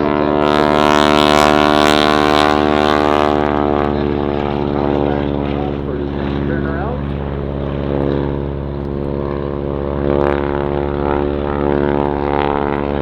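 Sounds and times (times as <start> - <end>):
biplane engine humming: 0.0 - 13.0.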